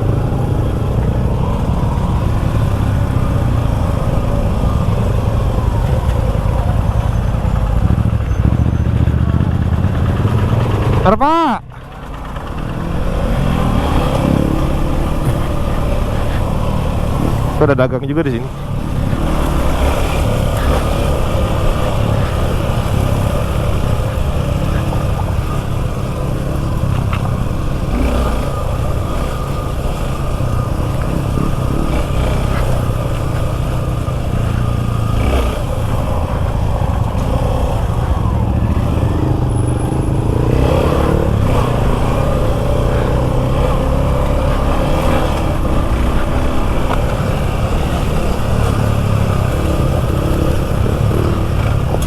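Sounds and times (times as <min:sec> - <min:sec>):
motorcycle engine running: 0:00.0 - 0:52.0
road noise: 0:00.0 - 0:52.0.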